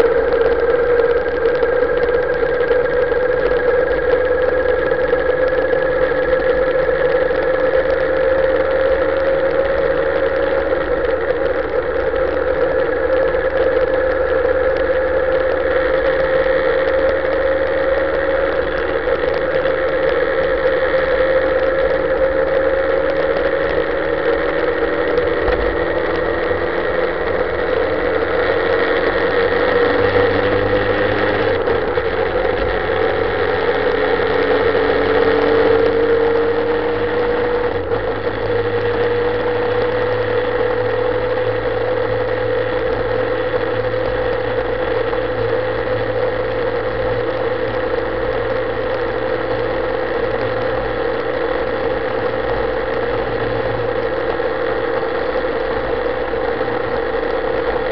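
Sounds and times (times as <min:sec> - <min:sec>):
motorcycle engine riding: 0:00.0 - 0:57.9.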